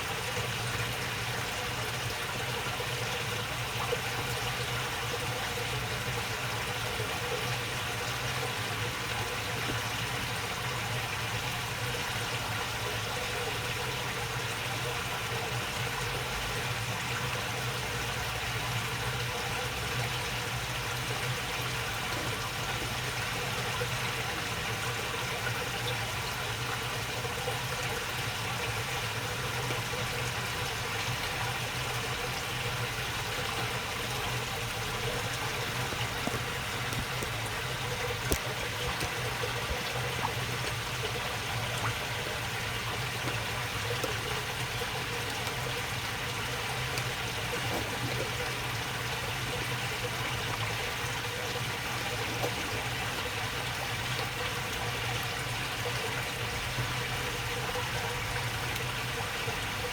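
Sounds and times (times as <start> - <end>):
water flowing in a channel: 0.0 - 59.9.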